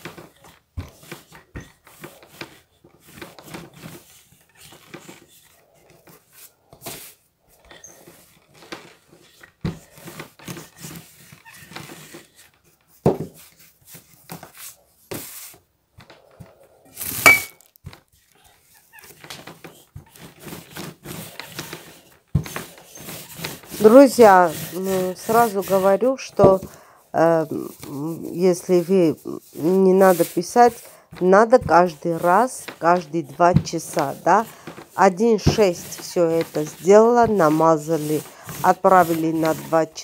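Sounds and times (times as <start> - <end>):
rolling pin rolling dough: 0.0 - 40.0.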